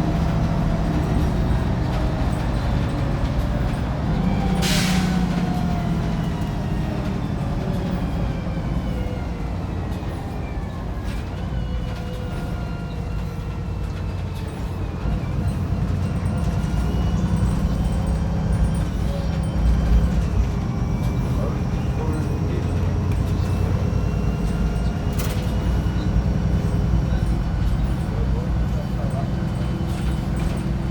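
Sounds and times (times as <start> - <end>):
bus engine running under load: 0.0 - 30.9.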